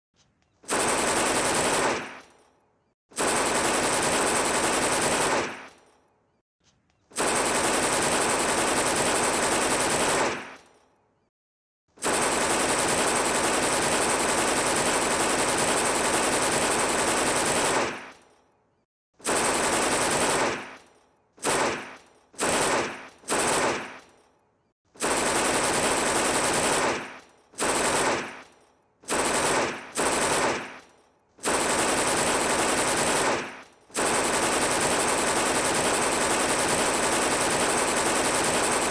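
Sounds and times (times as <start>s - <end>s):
submachine gun firing bursts: 0.7s - 2.4s, 3.2s - 5.9s, 7.1s - 10.7s, 12.0s - 18.2s, 19.2s - 24.2s, 25.0s - 38.9s.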